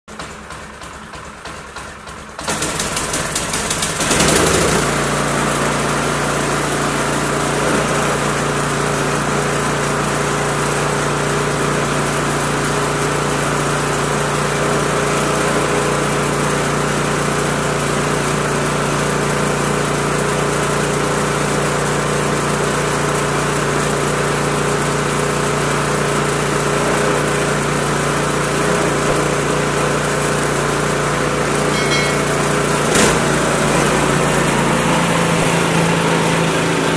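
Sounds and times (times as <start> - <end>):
snowblower engine running: 0.1 - 36.9.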